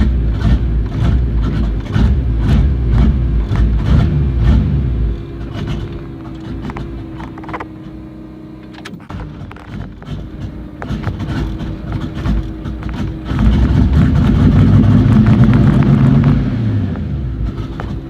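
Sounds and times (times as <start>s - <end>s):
car engine lumpy idle and revving: 0.0s - 18.0s.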